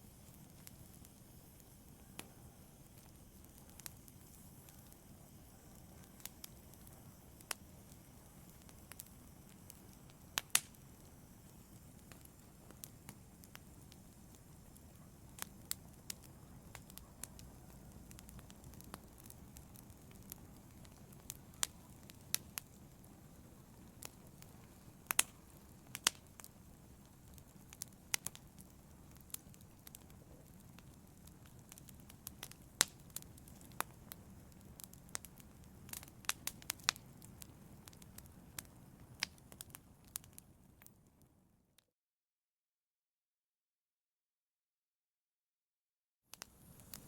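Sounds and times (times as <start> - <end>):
fire pops: 0.0 - 41.0, 46.3 - 47.0
wood fire crackling: 0.0 - 41.3, 46.3 - 47.0.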